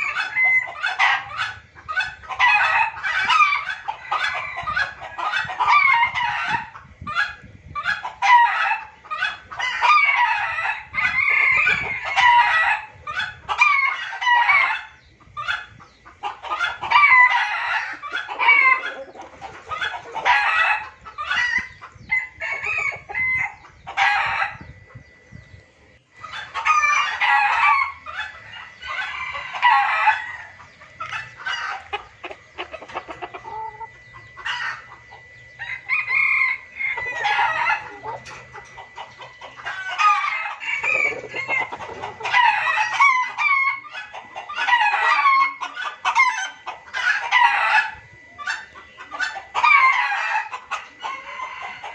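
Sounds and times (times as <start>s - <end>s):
junglefowl clucking and crowing: 0.0s - 51.9s.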